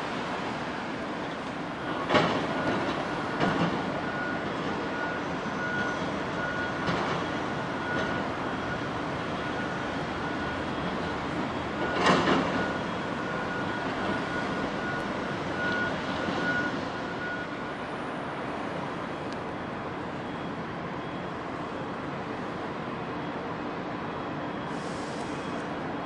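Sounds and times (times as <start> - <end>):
machinery: 0.0 - 26.0.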